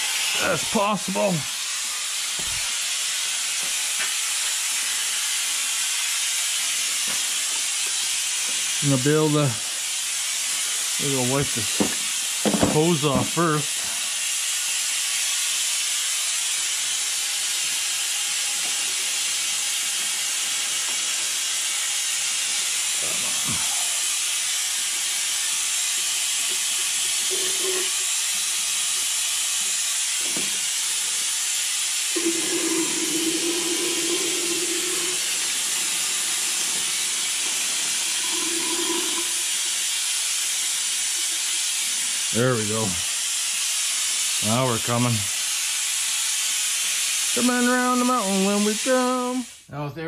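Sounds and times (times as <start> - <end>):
rushing air hiss: 0.0 - 49.1.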